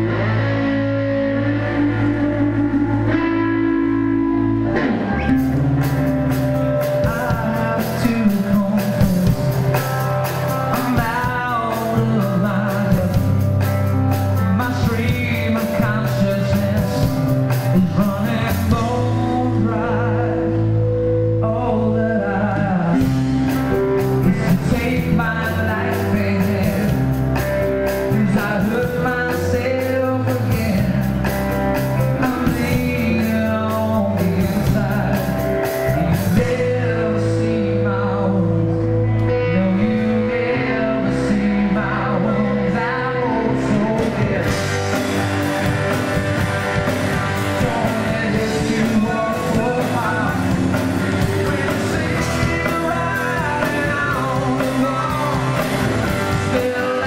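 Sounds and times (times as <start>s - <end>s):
live rock band playing: 0.0s - 57.0s
male lead vocal: 0.0s - 57.0s.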